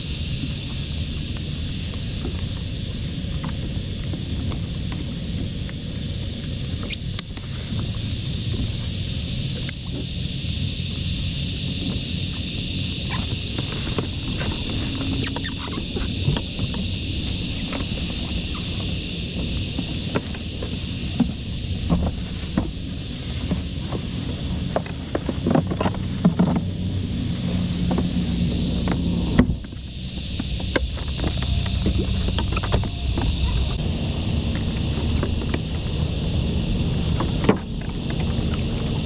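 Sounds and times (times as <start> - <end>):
cicadas droning: 0.0 - 39.0
low rumble: 0.0 - 39.0.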